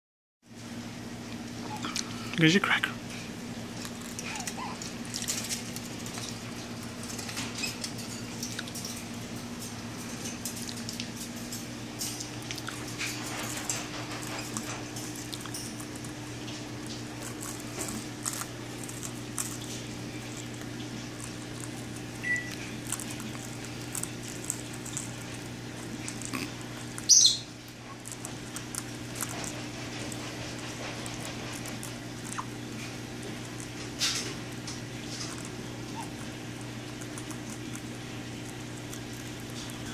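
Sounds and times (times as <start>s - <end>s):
steady low hum: 0.5s - 39.9s
parrot crunching a cracker: 1.3s - 39.9s.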